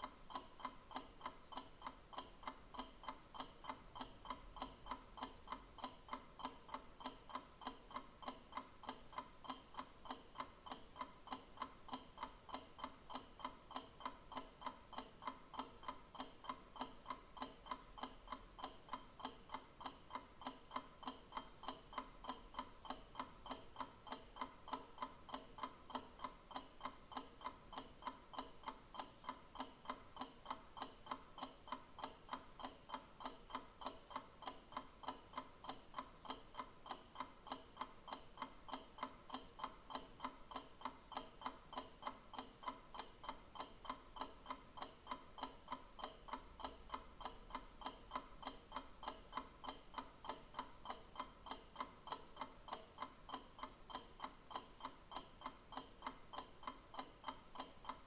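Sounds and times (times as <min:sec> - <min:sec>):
mechanical clock ticking: 0:00.0 - 0:58.0.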